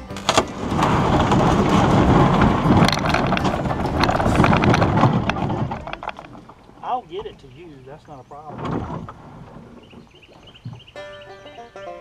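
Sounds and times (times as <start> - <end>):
canoe hull scraping on gravel: 0.0 - 11.9.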